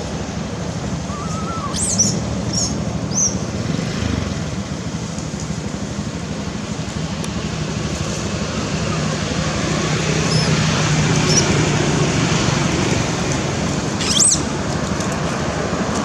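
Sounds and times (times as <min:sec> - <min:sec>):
road traffic hum: 0:00.0 - 0:16.0
vehicle engine: 0:00.0 - 0:16.0.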